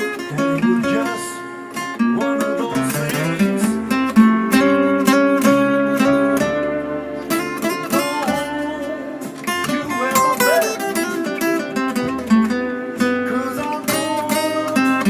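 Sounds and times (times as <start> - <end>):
blues guitar playing: 0.0 - 15.0.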